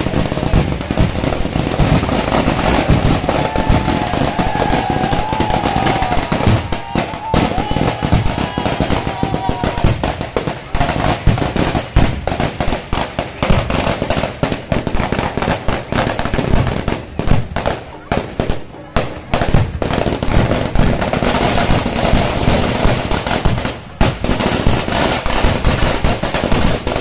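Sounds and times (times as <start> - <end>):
firecrackers crackling and banging: 0.0 - 27.0.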